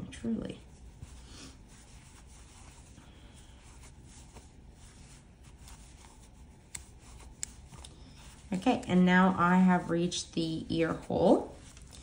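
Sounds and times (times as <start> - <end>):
yarn rustling with crochet hook: 0.0 - 12.0.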